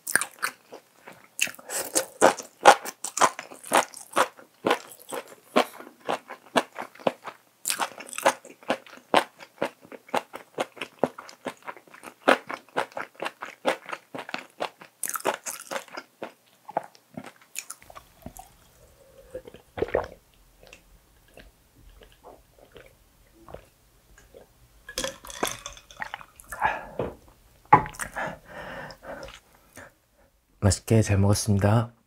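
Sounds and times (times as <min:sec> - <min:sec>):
person chewing crunchy food: 0:00.0 - 0:29.9.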